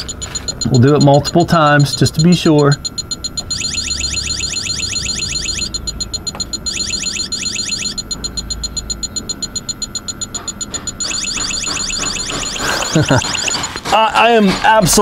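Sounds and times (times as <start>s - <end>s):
rising electronic chirps: 0.0s - 13.7s
fast electronic beeping: 0.0s - 14.3s.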